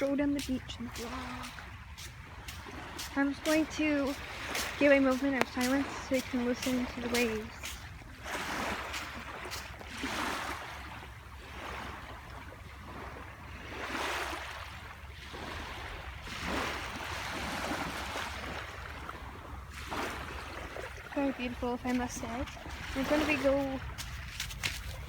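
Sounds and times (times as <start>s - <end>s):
ocean waves washing onto beach: 0.0s - 25.0s.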